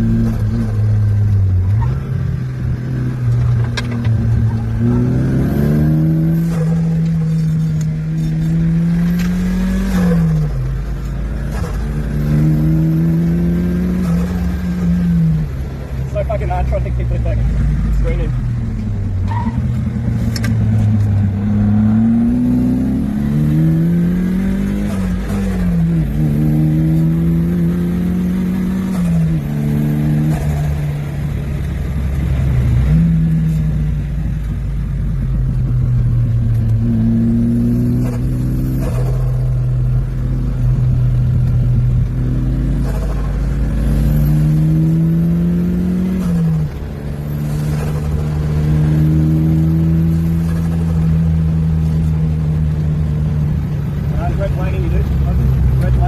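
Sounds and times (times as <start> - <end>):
car engine revving with gearshifts: 0.0 - 56.0.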